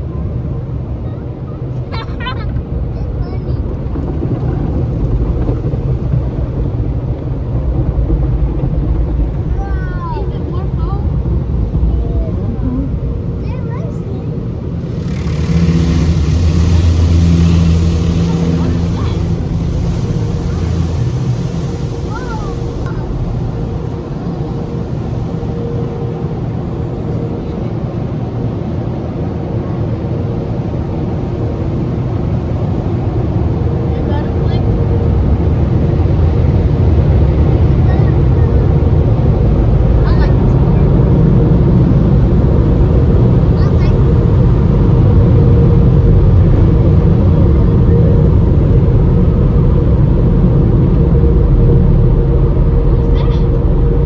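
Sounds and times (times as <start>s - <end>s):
car wash rushing noise: 1.6s - 54.0s.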